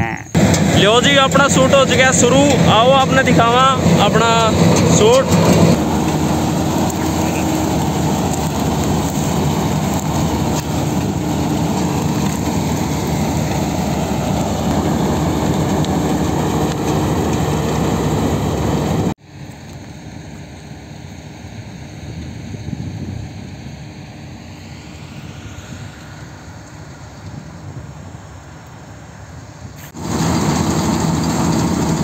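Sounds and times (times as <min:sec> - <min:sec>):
combine harvester engine and machinery: 0:00.2 - 0:32.0.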